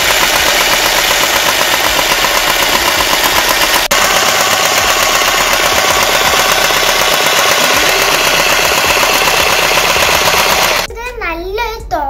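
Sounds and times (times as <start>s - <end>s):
toy sewing machine rattling: 0.0s - 10.9s.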